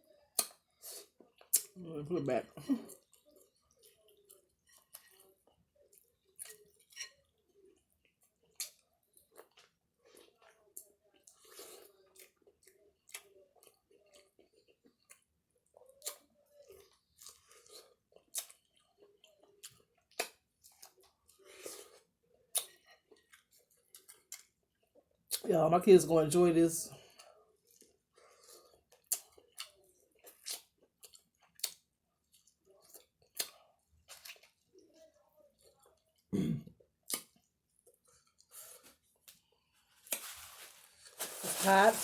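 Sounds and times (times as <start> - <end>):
person chewing food: 0.1 - 1.8, 2.9 - 25.4, 27.0 - 41.4.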